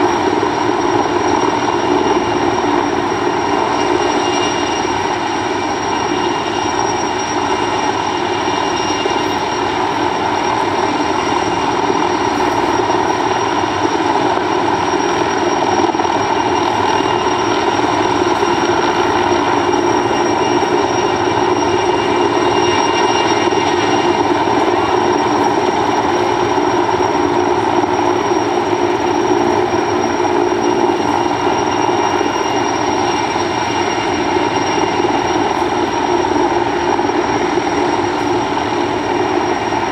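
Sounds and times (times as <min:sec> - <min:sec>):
helicopter rotor and engine drone: 0:00.0 - 0:39.9
high whine: 0:00.0 - 0:39.9.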